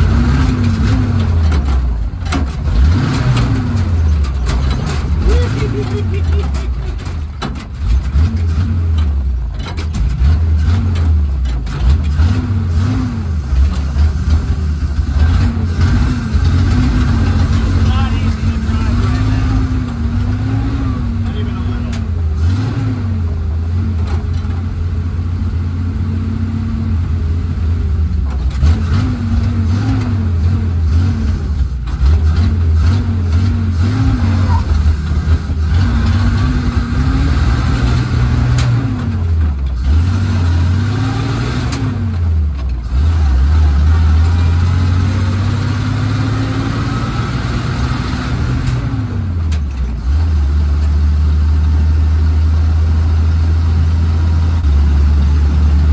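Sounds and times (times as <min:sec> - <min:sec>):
truck engine under load: 0:00.0 - 0:55.9.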